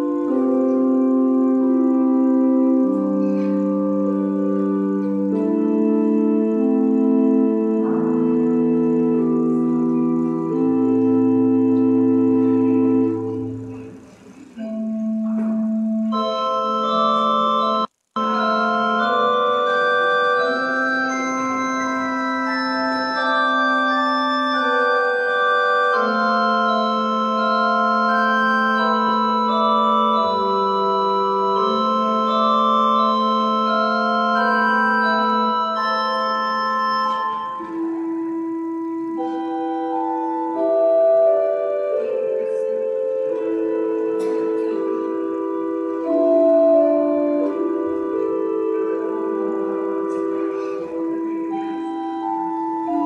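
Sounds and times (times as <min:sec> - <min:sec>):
pipe organ chords: 0:00.0 - 0:53.0.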